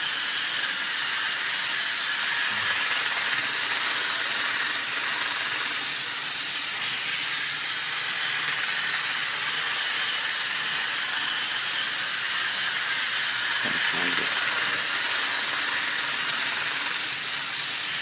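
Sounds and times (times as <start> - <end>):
toy train hissing whir: 0.0 - 18.0.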